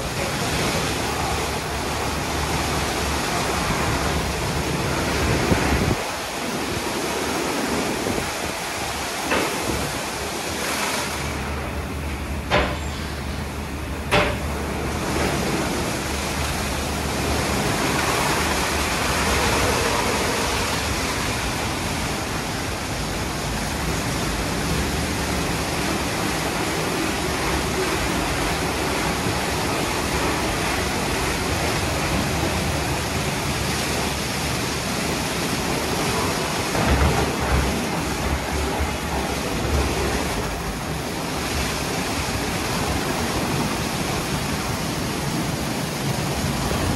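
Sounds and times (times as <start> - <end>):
car wash spraying water: 0.0 - 46.9.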